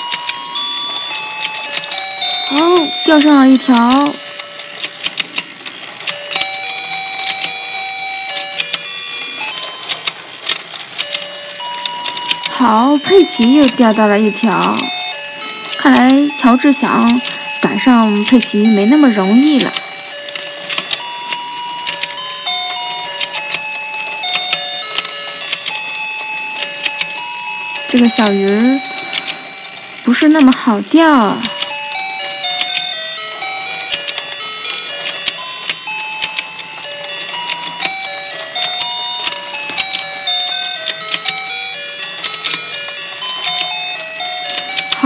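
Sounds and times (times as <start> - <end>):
plastic clicks of rotating toy: 0.0 - 2.5, 3.1 - 7.6, 8.4 - 12.5, 15.6 - 17.3, 18.1 - 45.0.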